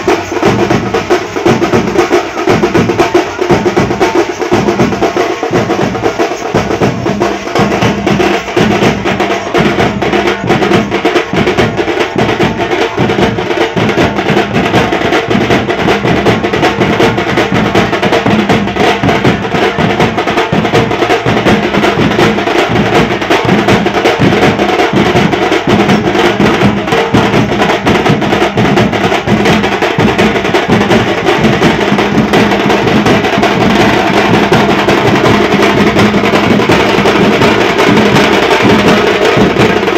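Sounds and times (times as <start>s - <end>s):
drum band playing fast rhythm: 0.0s - 39.9s.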